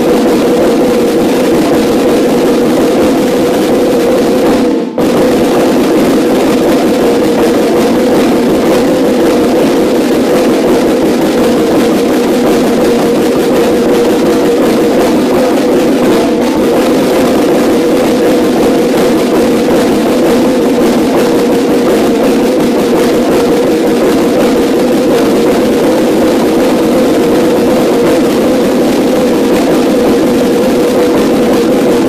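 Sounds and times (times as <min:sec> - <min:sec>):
marching snare drums rapid strokes: 0:00.0 - 0:32.0.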